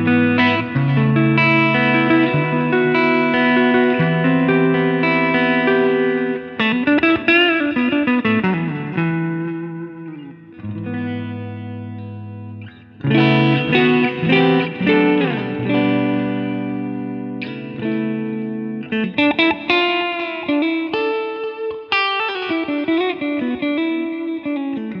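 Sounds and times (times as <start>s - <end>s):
clean electric guitar: 0.0s - 25.0s.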